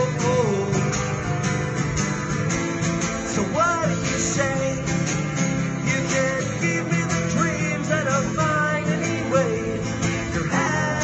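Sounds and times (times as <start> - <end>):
man singing: 0.0 - 1.4, 3.3 - 11.0
acoustic guitar strumming: 0.0 - 11.0.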